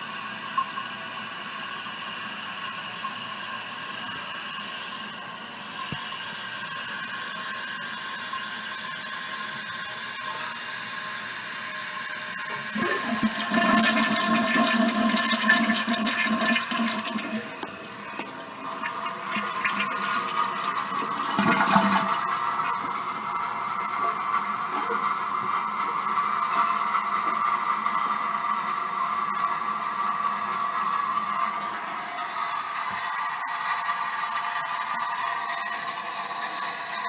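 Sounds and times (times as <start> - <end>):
toilet flushing: 0.0 - 37.0
toilet tank refilling hiss: 0.0 - 37.0.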